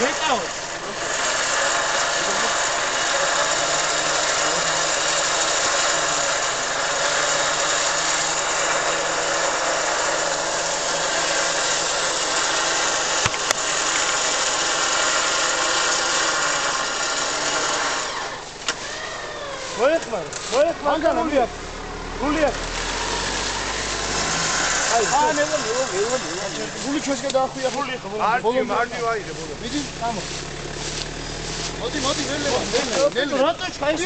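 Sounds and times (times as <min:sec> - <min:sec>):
engine at high revs: 0:00.0 - 0:34.0.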